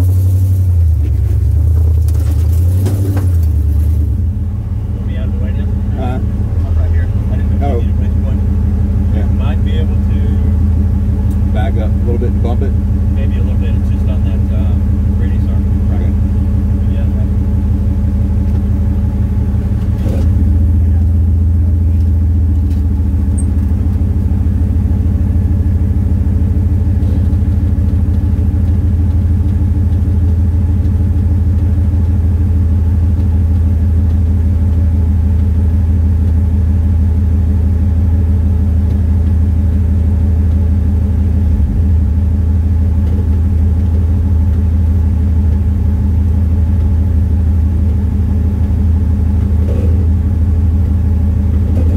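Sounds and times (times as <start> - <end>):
vehicle engine droning under load: 0.0 - 51.9.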